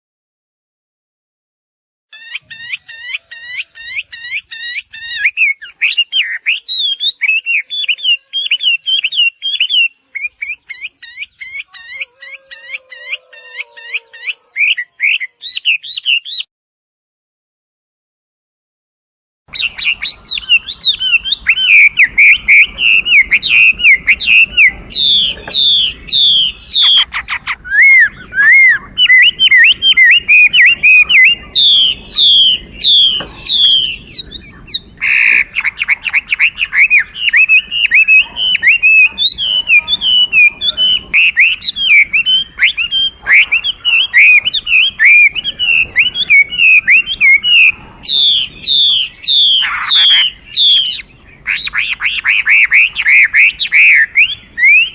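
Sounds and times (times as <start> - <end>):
bird singing whistled phrases: 2.2 - 16.5, 19.5 - 54.9.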